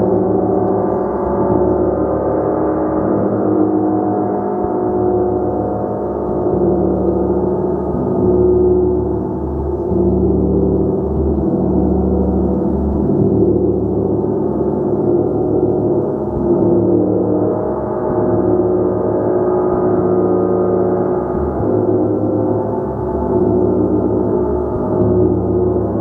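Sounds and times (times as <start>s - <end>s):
gong played continuously: 0.0s - 26.0s.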